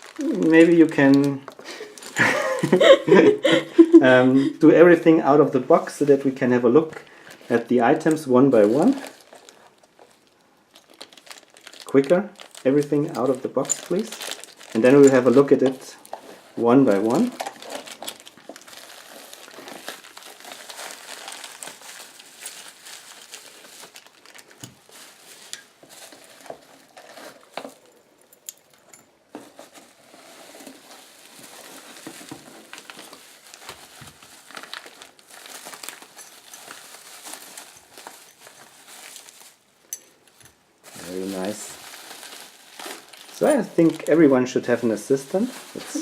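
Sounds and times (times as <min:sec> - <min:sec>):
bubble wrap crinkling: 0:00.0 - 0:46.0.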